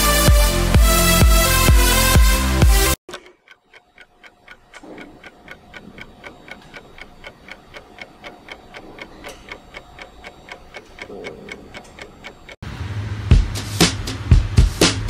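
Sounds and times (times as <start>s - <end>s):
clock ticking fast: 0.2s - 12.6s.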